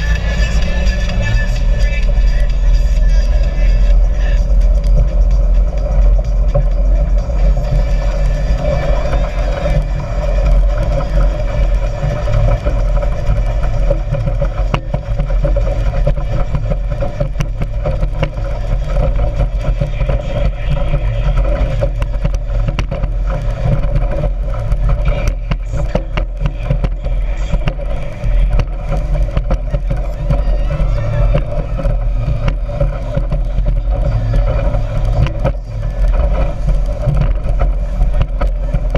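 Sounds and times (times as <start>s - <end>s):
speedboat engine rumbling: 0.0s - 38.9s.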